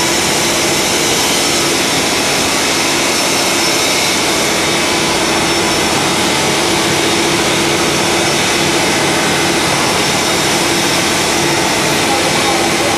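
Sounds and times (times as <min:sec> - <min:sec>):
pneumatic polisher running: 0:00.0 - 0:12.9.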